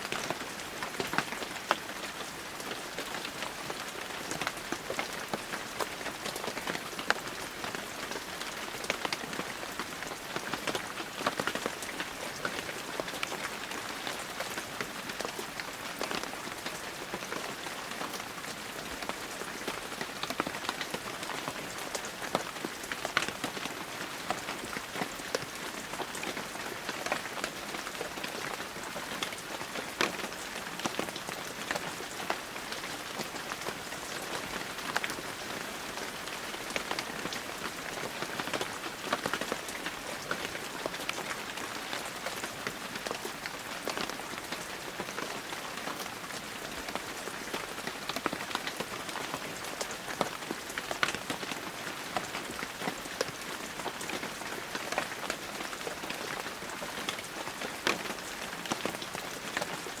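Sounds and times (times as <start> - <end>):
heavy rain on foliage: 0.0 - 60.0.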